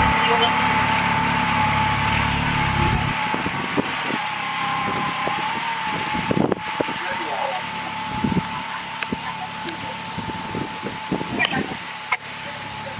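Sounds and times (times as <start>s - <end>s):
steady high whine: 0.0s - 12.9s
tractor diesel engine rumble: 0.0s - 12.9s.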